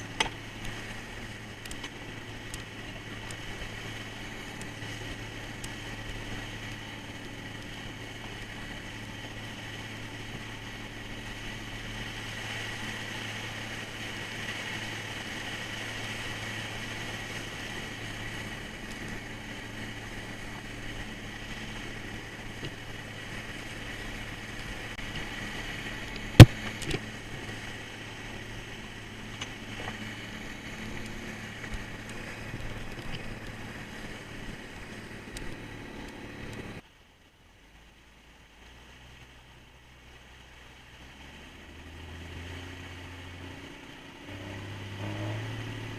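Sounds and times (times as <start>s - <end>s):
boat engine droning: 0.0s - 45.9s.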